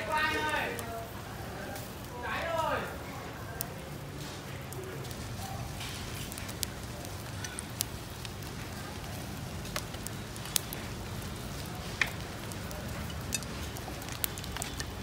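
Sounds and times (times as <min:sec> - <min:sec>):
charcoal fire crackling: 0:00.0 - 0:15.0
steady background noise: 0:00.0 - 0:15.0.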